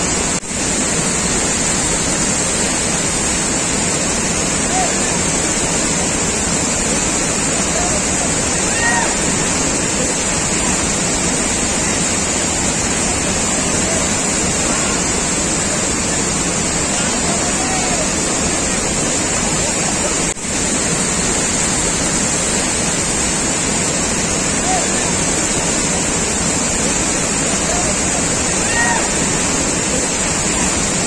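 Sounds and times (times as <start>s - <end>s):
waterfall rushing over rock: 0.0s - 31.0s.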